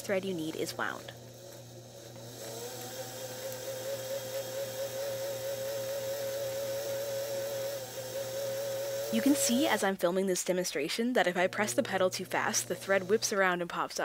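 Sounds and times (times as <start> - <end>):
sewing machine motor whirring: 0.0 - 9.9, 11.3 - 14.0.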